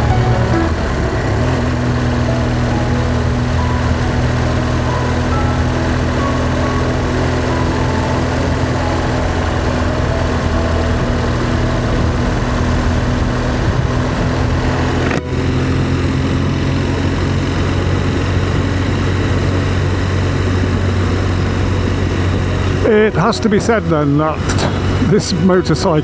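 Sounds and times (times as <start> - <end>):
motorcycle engine running: 0.0 - 25.2
wind and road noise: 0.0 - 26.0.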